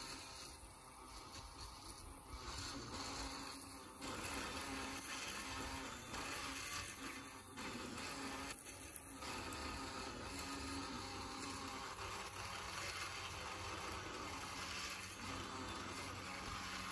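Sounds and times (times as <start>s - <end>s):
tiller churning soil: 0.0s - 16.9s.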